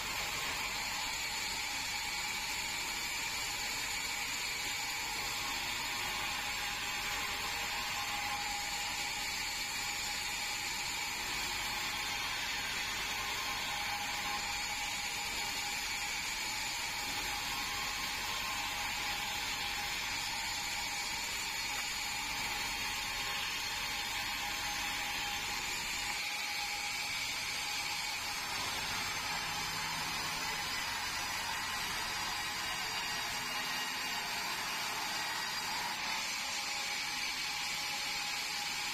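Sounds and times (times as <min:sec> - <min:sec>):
band saw whining: 0:00.0 - 0:38.9.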